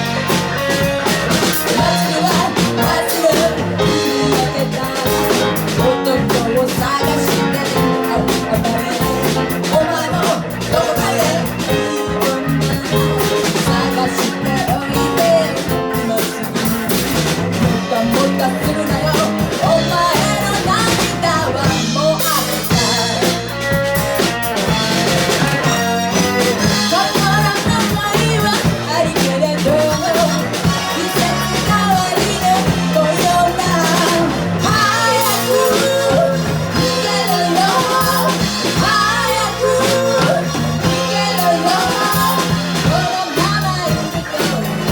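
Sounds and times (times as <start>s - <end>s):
person singing: 0.0s - 44.9s
pop band playing: 0.0s - 44.9s.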